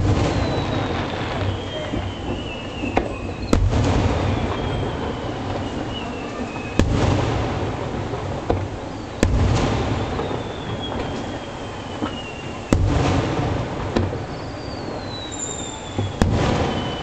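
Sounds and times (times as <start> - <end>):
faint firework crack: 0.0 - 17.0
fireworks bursting with bangs: 0.0 - 17.0.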